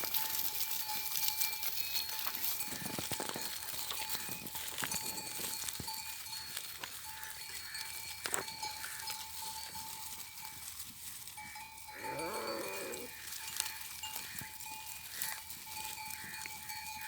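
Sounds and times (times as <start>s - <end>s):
animals moving and feeding: 0.0s - 17.0s
livestock bells jingling: 0.0s - 17.0s.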